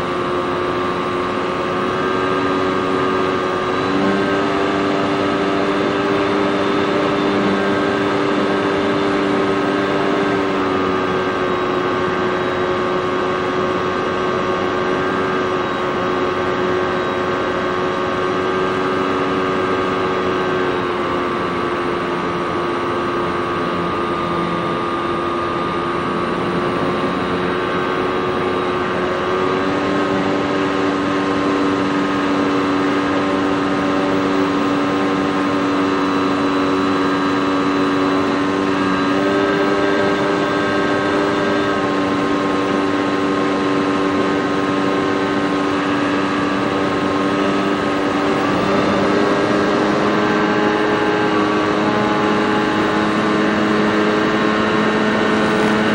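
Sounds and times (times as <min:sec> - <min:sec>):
model plane motor droning: 0:00.0 - 0:55.9.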